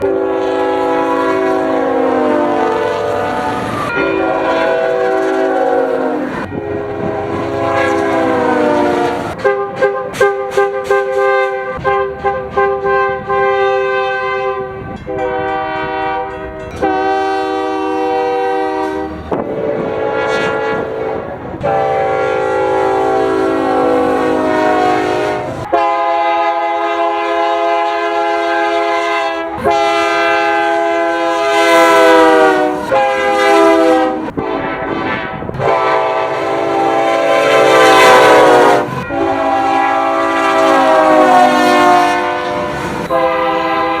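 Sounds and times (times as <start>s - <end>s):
locomotive air horn blasts: 0.0s - 44.0s.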